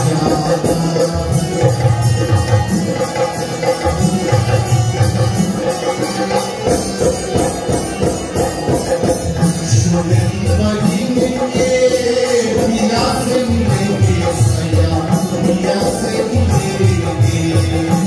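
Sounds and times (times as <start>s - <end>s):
dholak drum beat: 0.0s - 18.0s
harmonium notes: 0.0s - 18.0s.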